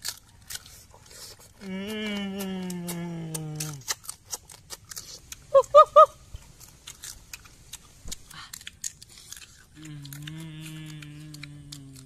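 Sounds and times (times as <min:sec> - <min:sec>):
crab shell crunching when chewed: 0:00.0 - 0:05.8, 0:06.4 - 0:12.0.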